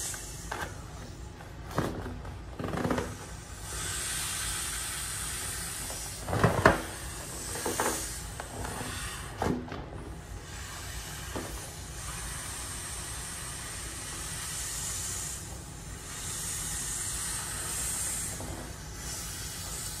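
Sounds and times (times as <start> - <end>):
air hissing out of valve: 0.0 - 1.2, 3.2 - 20.0.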